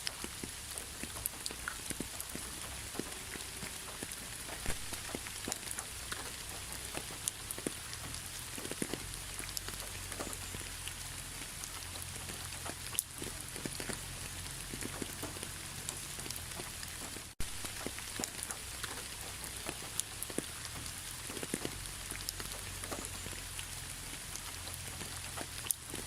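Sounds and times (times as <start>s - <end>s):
rain hissing: 0.0s - 26.0s
raindrops ticking: 0.0s - 26.0s.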